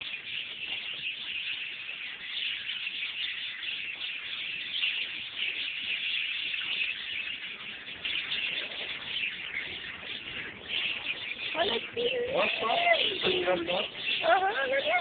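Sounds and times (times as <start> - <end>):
many birds chirping: 0.0 - 15.0.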